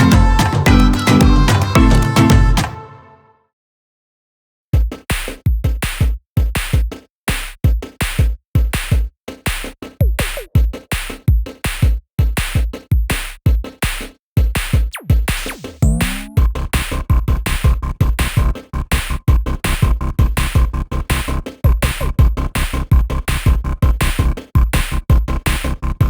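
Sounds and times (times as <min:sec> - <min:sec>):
electronic music with drum beat: 0:00.0 - 0:02.9, 0:04.8 - 0:26.0.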